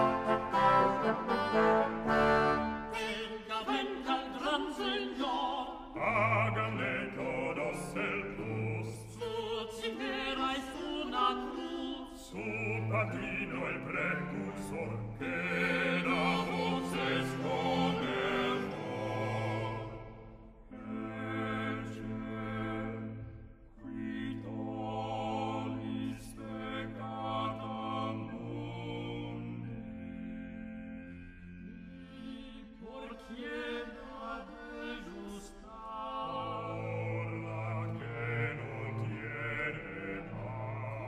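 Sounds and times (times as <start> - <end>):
small vocal group singing: 0.0 - 41.0.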